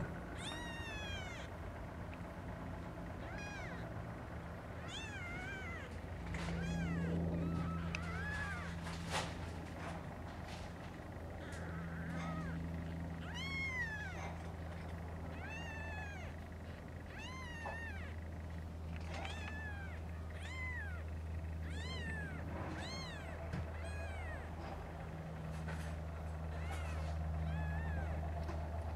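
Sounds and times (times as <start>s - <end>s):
kittens mewing: 0.0s - 28.9s
steady low hum: 0.0s - 28.9s.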